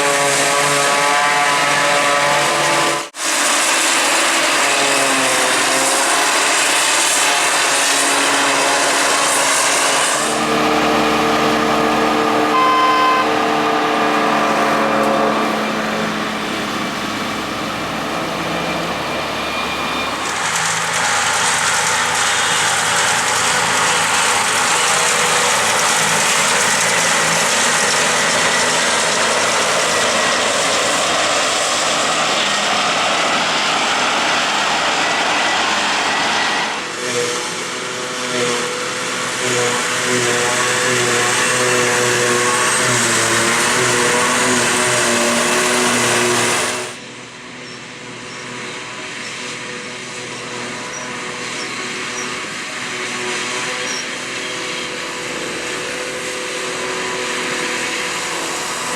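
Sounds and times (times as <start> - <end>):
heavy farm machinery engines: 0.0 - 58.9.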